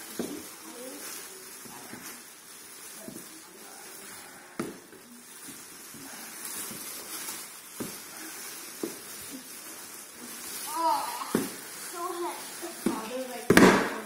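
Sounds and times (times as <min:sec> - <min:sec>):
cellophane crinkling and tearing: 0:00.0 - 0:14.0.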